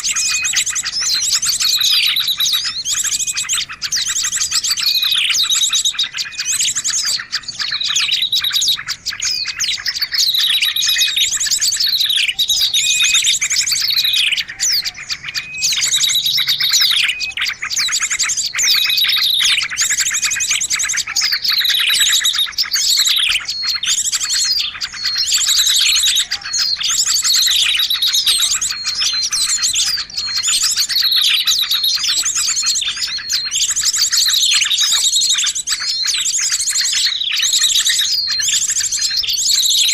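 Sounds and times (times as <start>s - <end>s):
buzzy bird trills: 0.0s - 39.9s
downward-sliding bird calls: 0.0s - 39.9s
small birds chirping: 0.0s - 39.9s.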